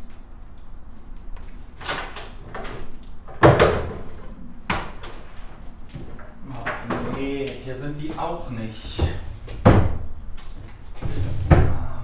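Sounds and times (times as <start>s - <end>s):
cupboard doors and contents clattering: 1.4s - 12.0s.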